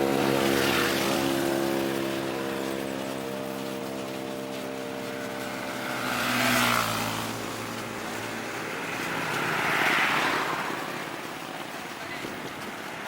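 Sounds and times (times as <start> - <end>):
vehicles passing by: 0.0 - 13.0.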